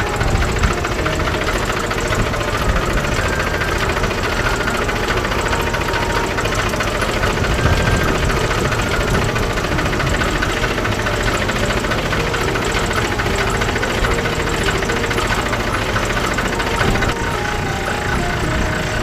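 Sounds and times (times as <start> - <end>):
engine idling with knocking: 0.0 - 19.0.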